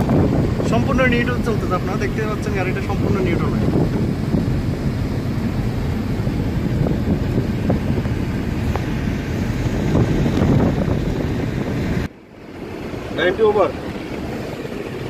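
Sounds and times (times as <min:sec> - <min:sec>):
tyre and wind noise in car: 0:00.0 - 0:15.0.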